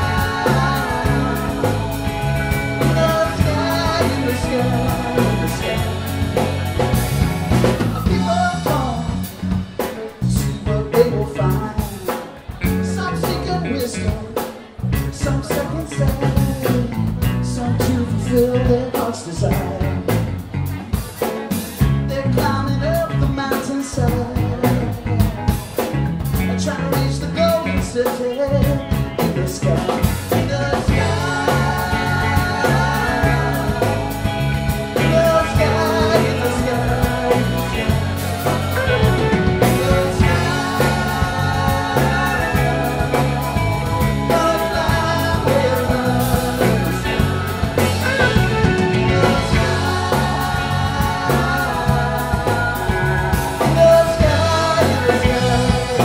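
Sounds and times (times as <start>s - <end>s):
bass guitar: 0.0s - 56.0s
drum kit beat: 0.0s - 56.0s
electric guitars: 0.0s - 56.0s.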